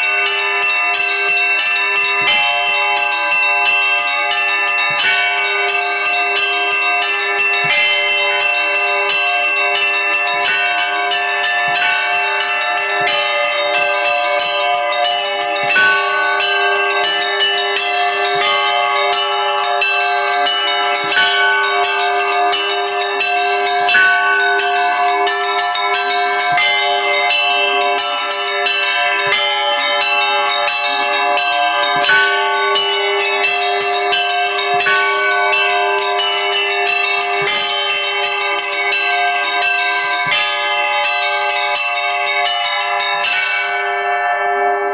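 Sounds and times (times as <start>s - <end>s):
church bells pealing: 0.0s - 44.9s
low bell tone: 0.0s - 44.9s.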